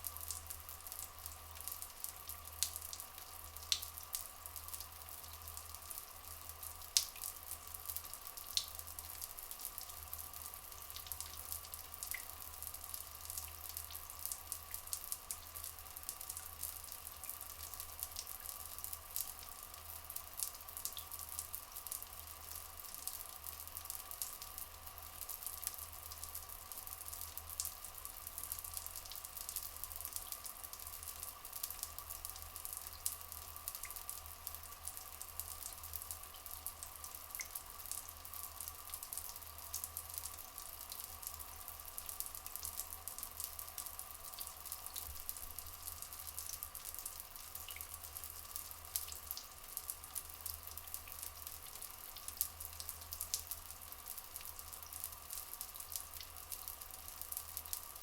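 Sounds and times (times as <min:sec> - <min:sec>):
water dripping and splashing: 0:00.0 - 0:58.0
water trickling: 0:00.0 - 0:58.0.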